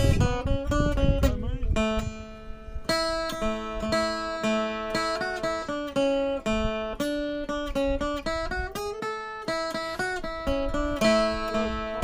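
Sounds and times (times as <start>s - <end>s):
acoustic guitar picked melody: 0.0s - 12.0s.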